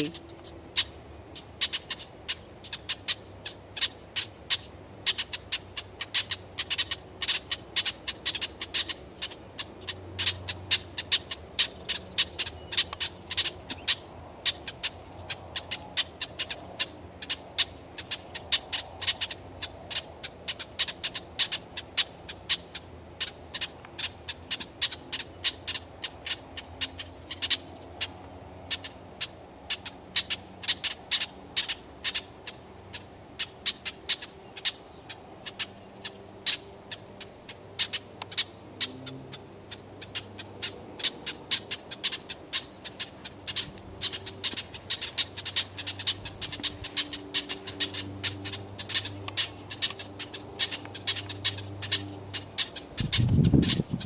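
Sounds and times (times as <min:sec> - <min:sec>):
songbirds chip calls: 0:00.0 - 0:54.0.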